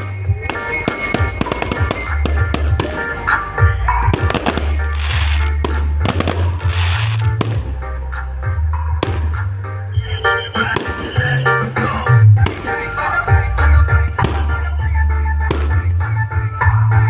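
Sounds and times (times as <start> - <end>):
fireworks popping and crackling: 0.0 - 8.0, 8.8 - 16.1
background music: 0.0 - 17.0
hissing firework bursts: 0.2 - 14.8.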